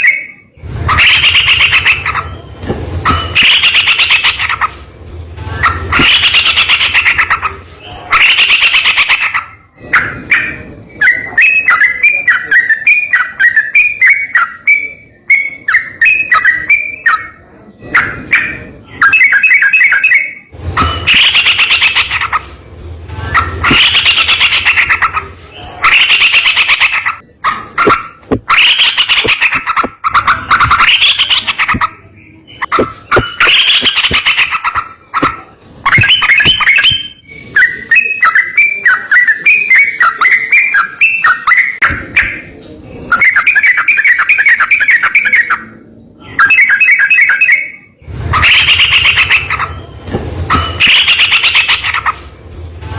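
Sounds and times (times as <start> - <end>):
bird chattering song: 0.0 - 4.8, 5.6 - 22.5, 23.3 - 52.3.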